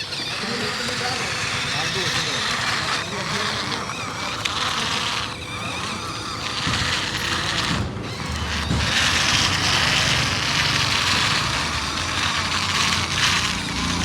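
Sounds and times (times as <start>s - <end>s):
toy electric motor rattling hiss: 0.0s - 14.0s.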